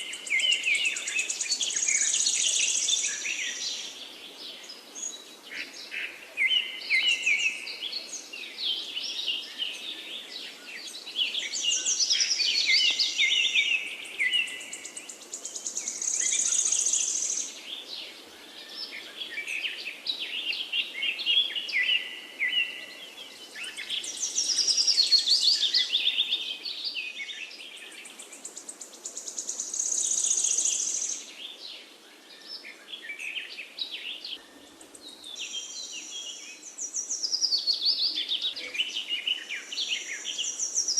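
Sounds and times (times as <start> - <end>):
faint background hiss: 0.0 - 40.9
songbirds singing: 0.0 - 40.9.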